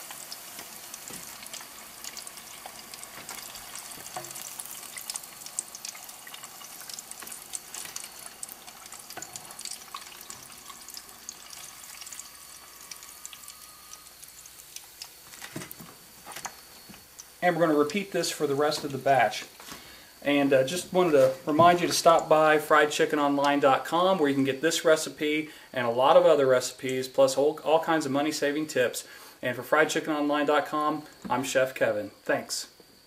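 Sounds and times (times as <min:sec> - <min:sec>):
oil sizzling with crackles and pops: 0:00.0 - 0:31.7.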